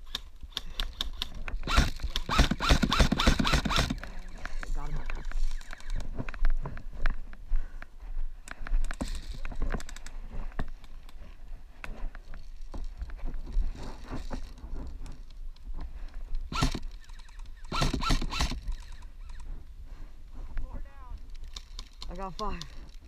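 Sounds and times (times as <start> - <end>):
dry grass and gear rustling: 0.0 - 23.0
footsteps in brush: 1.0 - 17.6, 18.6 - 23.0
small scuffs and clicks: 3.7 - 23.0.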